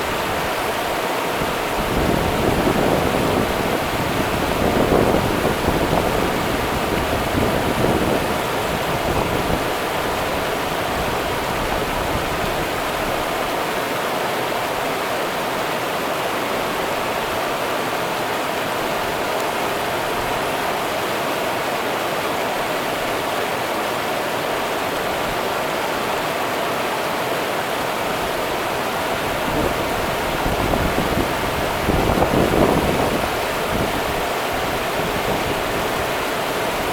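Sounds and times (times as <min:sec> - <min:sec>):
river water rushing: 0:00.0 - 0:36.9.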